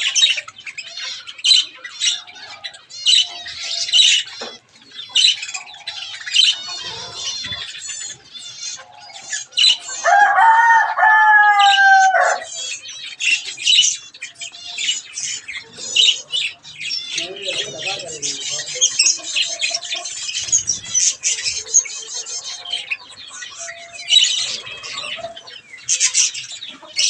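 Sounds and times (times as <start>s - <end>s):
budgerigars chattering and squawking: 0.0s - 27.0s.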